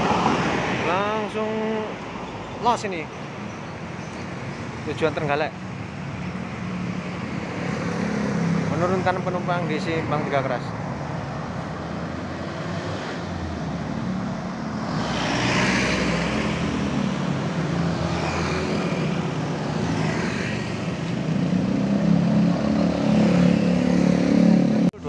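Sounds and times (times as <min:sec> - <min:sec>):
cars and scooters passing: 0:00.0 - 0:25.0
motorbike engines: 0:02.6 - 0:25.0.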